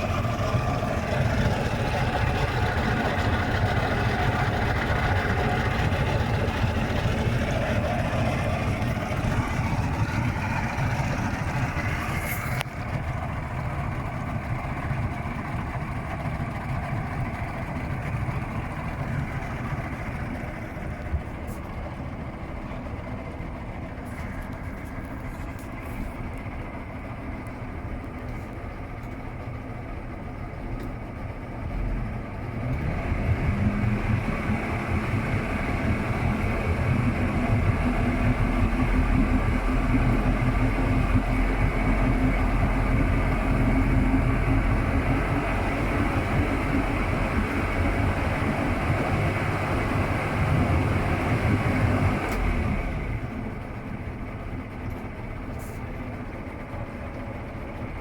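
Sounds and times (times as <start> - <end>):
outboard motor idling and revving: 0.0 - 58.0.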